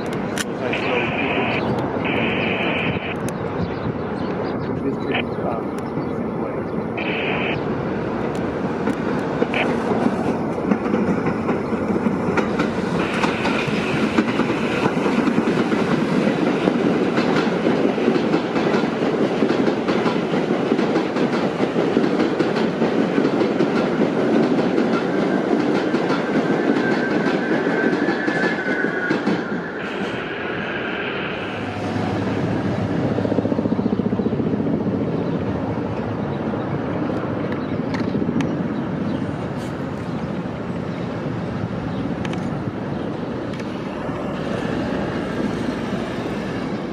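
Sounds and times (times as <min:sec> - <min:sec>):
subway train rumbling past: 0:00.0 - 0:46.9.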